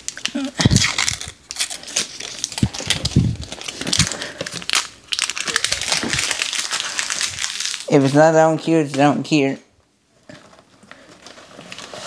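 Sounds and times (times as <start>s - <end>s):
packaging crinkling and rustling: 0.0s - 9.1s, 10.2s - 12.0s.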